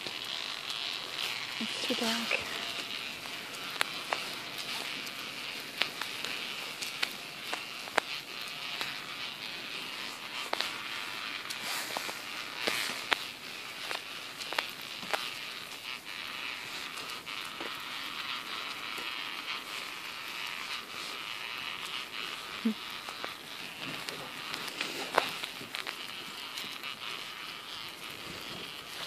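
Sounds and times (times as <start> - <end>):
pram wheels rolling on road: 0.0 - 29.0.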